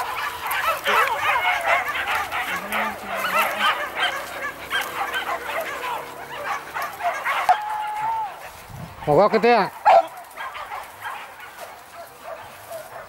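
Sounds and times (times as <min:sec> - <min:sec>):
dogs yelping and whining: 0:00.0 - 0:13.0.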